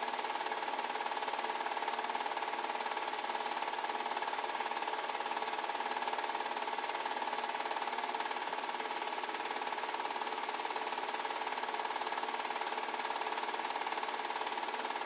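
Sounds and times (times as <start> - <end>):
film projector clattering: 0.0 - 15.0.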